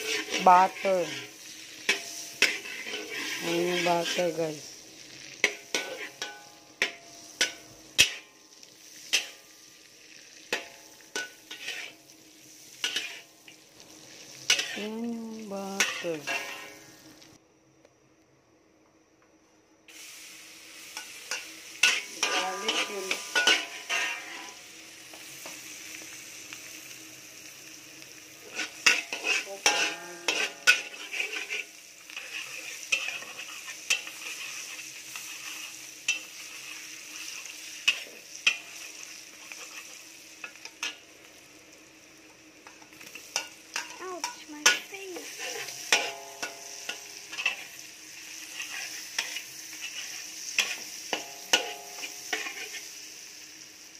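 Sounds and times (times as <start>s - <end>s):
metal spatula scraping a pan: 0.0s - 14.9s, 15.8s - 17.0s, 20.8s - 25.7s, 28.4s - 41.4s, 42.6s - 53.2s
garlic and onion sizzling in butter: 0.0s - 17.4s, 19.8s - 53.9s.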